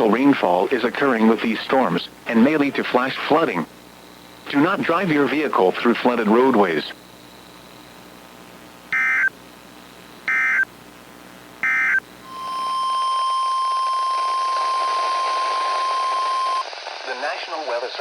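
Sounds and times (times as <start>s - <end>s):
radio hiss: 0.0s - 18.0s
buzzing data bursts: 1.0s - 16.6s.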